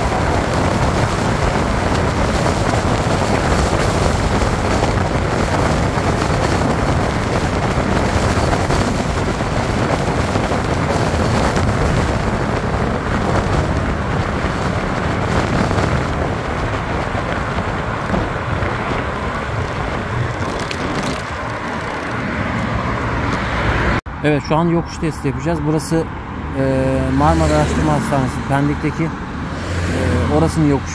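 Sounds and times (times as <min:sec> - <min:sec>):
road and tyre noise: 0:00.0 - 0:30.9
wind rushing over microphone: 0:00.0 - 0:30.9.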